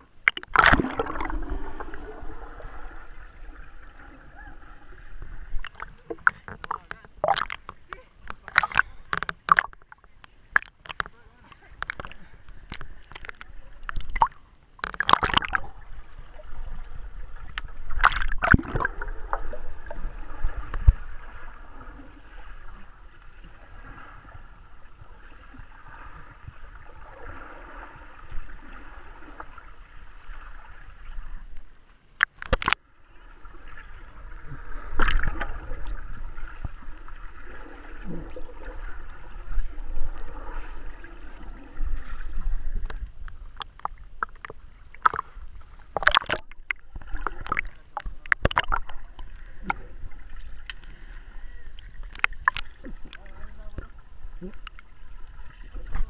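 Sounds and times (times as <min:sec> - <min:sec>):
underwater gurgling and bubbling: 0:00.0 - 0:31.4, 0:32.2 - 0:56.0.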